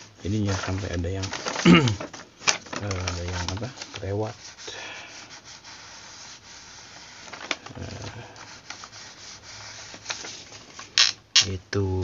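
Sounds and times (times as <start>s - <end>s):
iron rubbing on paper: 0.0s - 11.1s.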